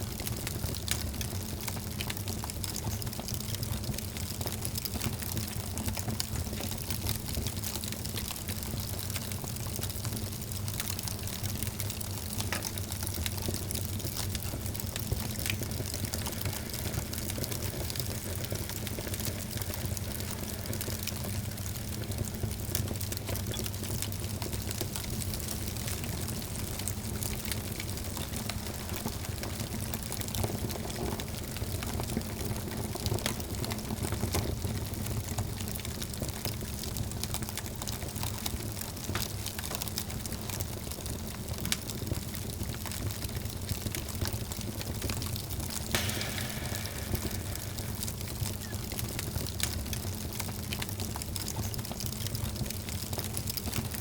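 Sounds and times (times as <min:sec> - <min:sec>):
fire crackling and popping: 0:00.0 - 0:54.0
fire roaring in a fireplace: 0:00.0 - 0:54.0.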